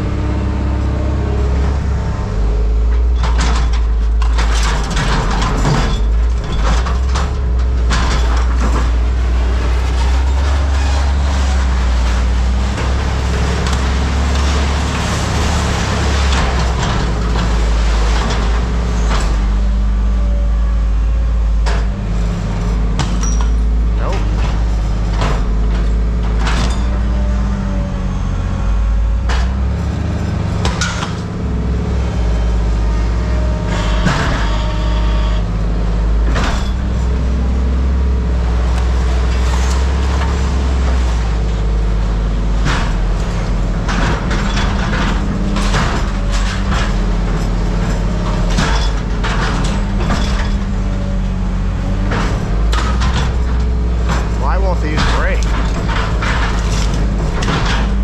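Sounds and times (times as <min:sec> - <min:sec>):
heavy engine running: 0:00.0 - 0:58.0
metal clanks and knocks: 0:02.8 - 0:20.3, 0:21.1 - 0:27.9, 0:29.2 - 0:35.6, 0:36.2 - 0:58.0.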